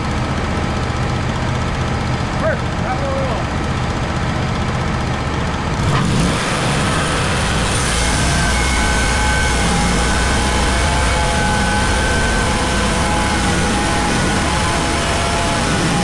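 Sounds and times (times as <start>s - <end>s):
sawmill engine running: 0.0s - 16.0s
steady whine: 0.0s - 16.0s.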